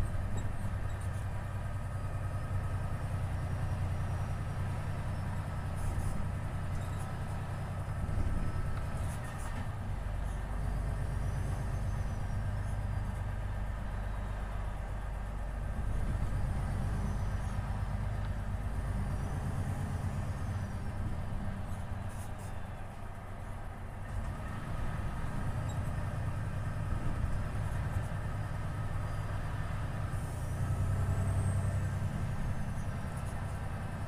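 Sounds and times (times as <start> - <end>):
truck diesel engine drone: 0.0 - 34.0.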